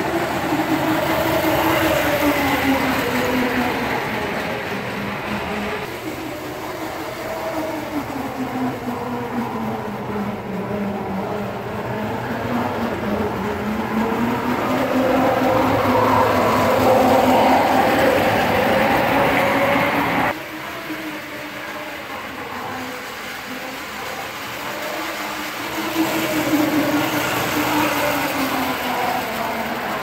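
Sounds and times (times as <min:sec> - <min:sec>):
toy train wheels rumbling: 0:00.0 - 0:30.0.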